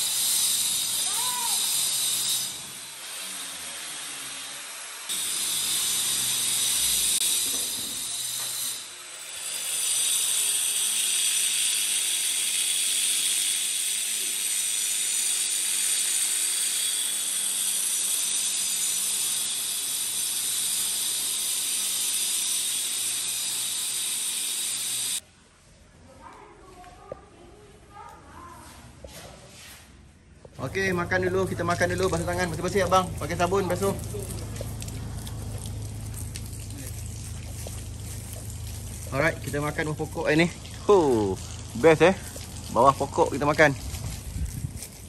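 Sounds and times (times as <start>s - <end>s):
power cutter cutting masonry: 0.0s - 25.2s, 30.5s - 45.0s.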